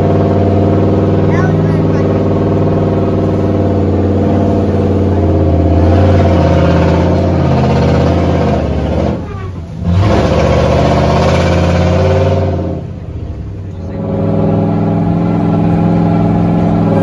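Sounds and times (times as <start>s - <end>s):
truck engine running under throttle: 0.0s - 17.0s.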